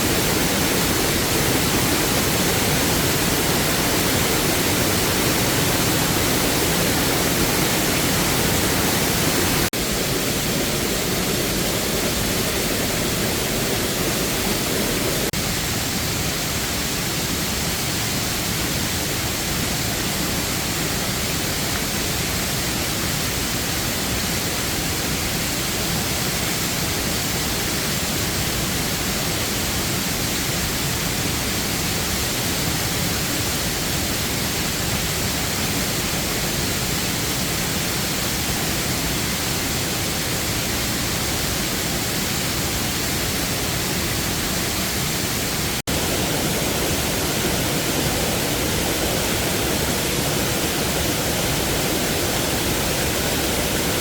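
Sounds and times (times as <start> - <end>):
waterfall rushing: 0.0 - 26.6, 31.2 - 54.0.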